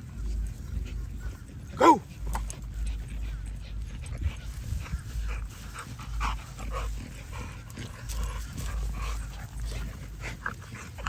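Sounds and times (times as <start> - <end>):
puppies panting: 0.0 - 11.0
wind rumble on microphone: 0.0 - 11.0.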